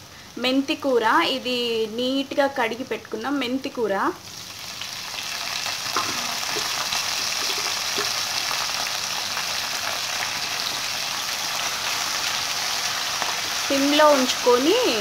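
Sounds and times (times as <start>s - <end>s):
hot oil sizzling in a pan: 0.0s - 15.0s.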